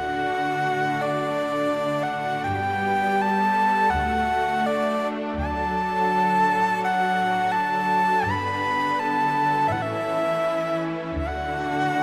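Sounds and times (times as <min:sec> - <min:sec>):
slow melody over low bass: 0:00.0 - 0:12.0.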